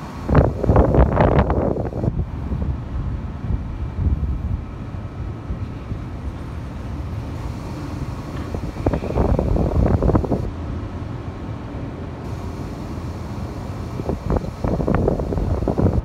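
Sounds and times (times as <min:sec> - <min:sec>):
wind buffeting microphone: 0:00.0 - 0:10.6, 0:12.3 - 0:16.0
low outdoor rumble: 0:00.0 - 0:16.0.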